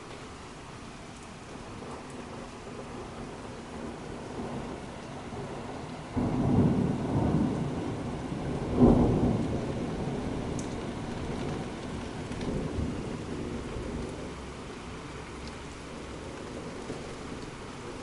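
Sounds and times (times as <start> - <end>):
heavy rain hiss: 0.0 - 18.0
thunder rumbling and cracking: 1.5 - 18.0.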